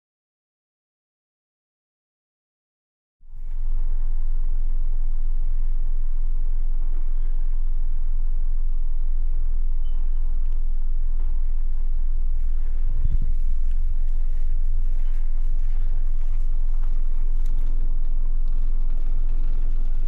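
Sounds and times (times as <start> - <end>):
subwoofer deep test tone drone: 3.2 - 20.0.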